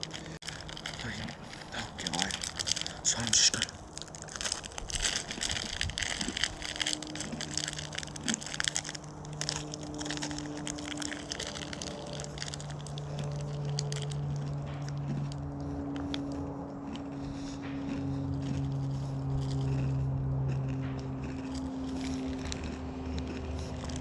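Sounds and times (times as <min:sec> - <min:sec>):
crunching granola bar: 0:00.0 - 0:24.0
steady low hum: 0:00.0 - 0:24.0.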